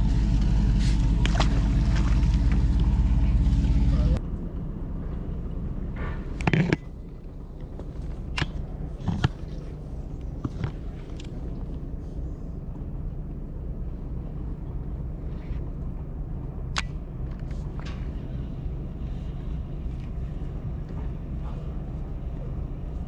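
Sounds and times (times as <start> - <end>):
low motor hum: 0.0 - 23.0.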